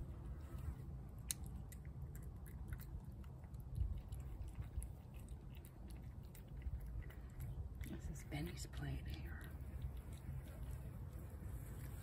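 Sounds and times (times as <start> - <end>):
cat chewing food: 0.0 - 12.0
steady low rumble: 0.0 - 12.0.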